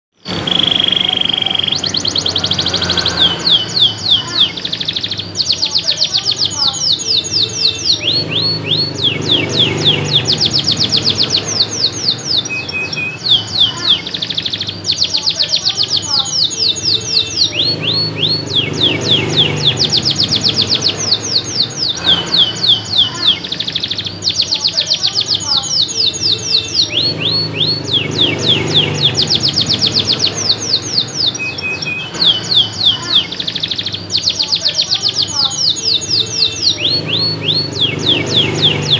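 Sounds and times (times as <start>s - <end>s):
canary singing: 0.1s - 38.9s.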